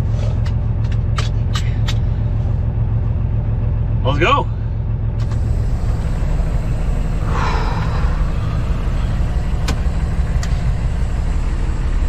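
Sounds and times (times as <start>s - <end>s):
diesel truck engine rumble: 0.0s - 12.0s.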